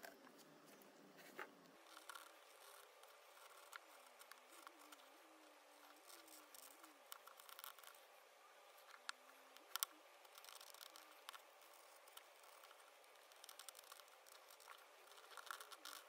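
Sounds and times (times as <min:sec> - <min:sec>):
craft knife scratching: 0:01.8 - 0:16.0.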